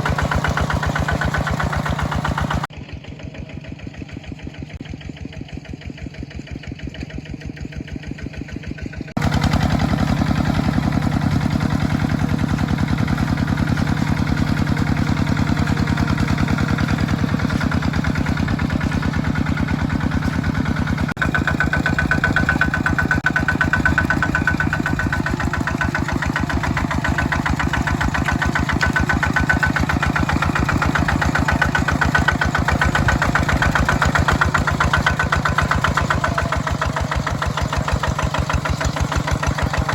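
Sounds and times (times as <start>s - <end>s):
mini tractor engine running: 0.0s - 39.9s.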